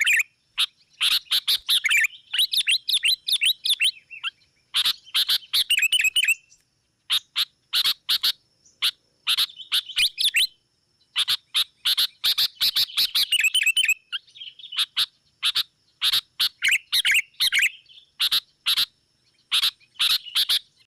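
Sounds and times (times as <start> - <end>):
birds chattering calls: 0.0 - 20.9.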